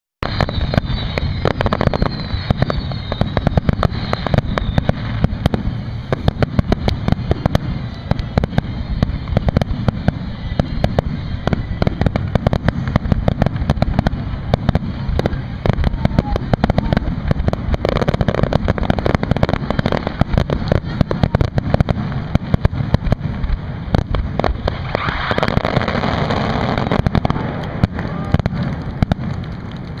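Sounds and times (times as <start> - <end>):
loud hiss: 0.2 - 28.8
fireworks bursts and bangs: 0.2 - 30.0.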